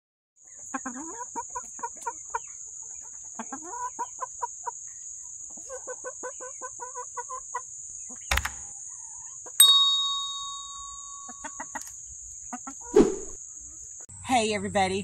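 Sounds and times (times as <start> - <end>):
chickens clucking: 0.4 - 9.6, 11.2 - 14.1.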